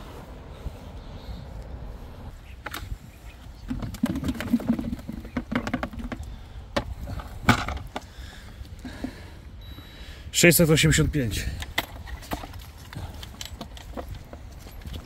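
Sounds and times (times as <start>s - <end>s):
wind rumbling on microphone: 0.0s - 10.1s, 11.0s - 15.0s.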